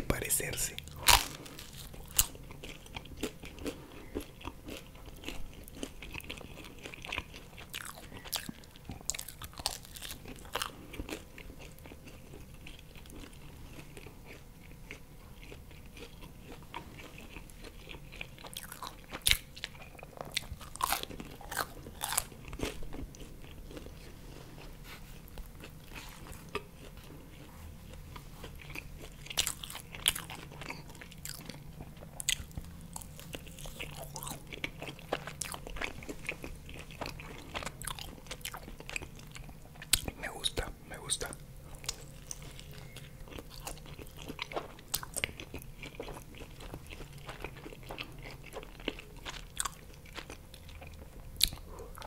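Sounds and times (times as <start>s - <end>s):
chewing pizza: 0.0s - 52.0s.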